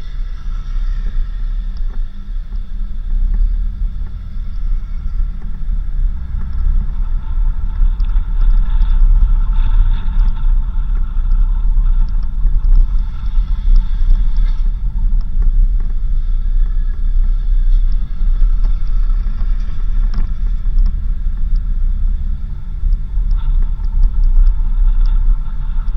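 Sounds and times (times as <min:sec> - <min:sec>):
high whine: 0:00.0 - 0:25.9
vehicle engine and tyres rumbling: 0:00.0 - 0:25.9.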